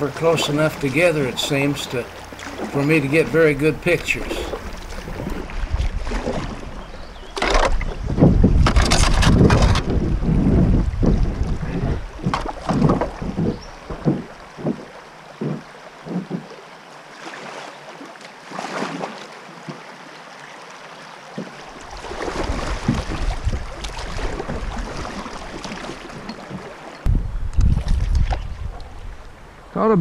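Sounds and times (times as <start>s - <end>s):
wind buffeting microphone: 0.0s - 16.5s, 21.9s - 30.0s
river rushing around kayak: 0.0s - 30.0s.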